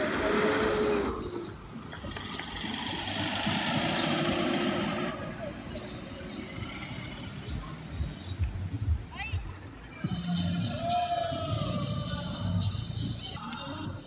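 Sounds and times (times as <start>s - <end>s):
bus passing by: 0.0s - 13.4s.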